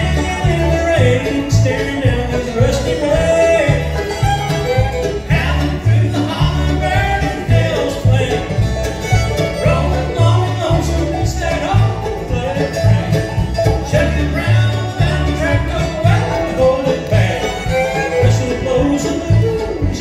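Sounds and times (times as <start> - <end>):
bluegrass band playing: 0.0 - 20.0
upright bass beat: 0.0 - 20.0.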